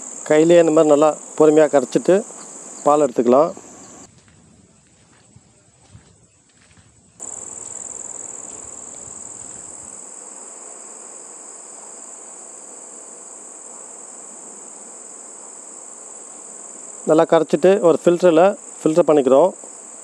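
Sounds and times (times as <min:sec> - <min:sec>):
background hiss: 0:00.0 - 0:20.0
crickets trilling: 0:00.0 - 0:20.0.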